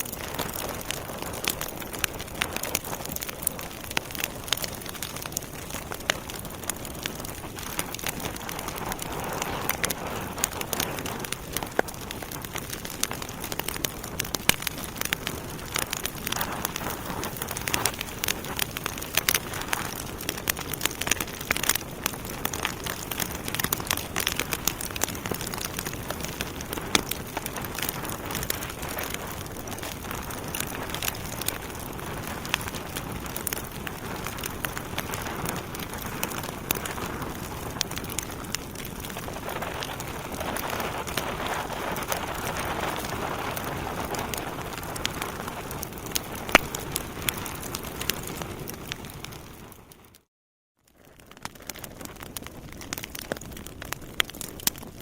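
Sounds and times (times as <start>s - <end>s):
wood fire crackling: 0.0s - 50.2s, 50.9s - 55.0s.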